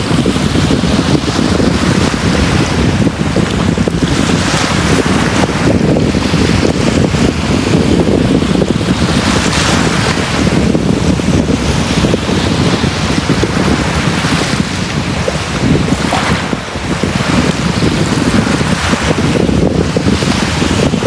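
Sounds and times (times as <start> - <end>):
sea waves washing onto beach: 0.0 - 21.0.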